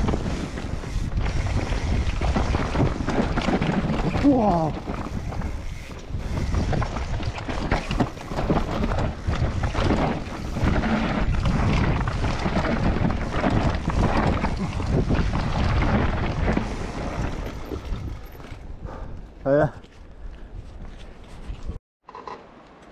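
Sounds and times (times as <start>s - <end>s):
bike rattling and clattering: 0.0s - 19.1s
wind buffeting microphone: 0.0s - 19.6s.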